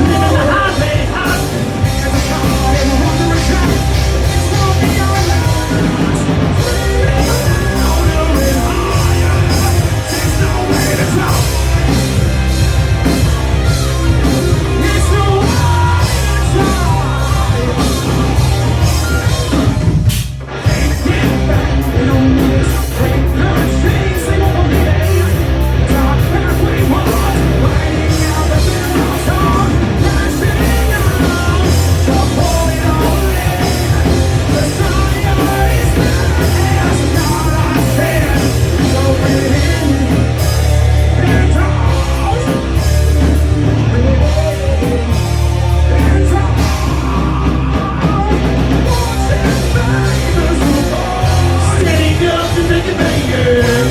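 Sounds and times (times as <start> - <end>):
person singing: 0.0 - 19.7, 20.6 - 53.9
live rock band playing: 0.0 - 53.9.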